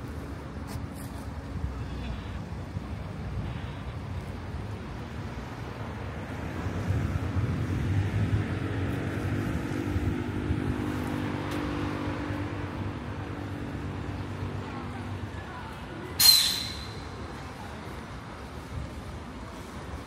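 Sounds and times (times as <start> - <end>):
city street traffic: 0.0 - 20.0
vehicle engine humming: 0.0 - 20.0.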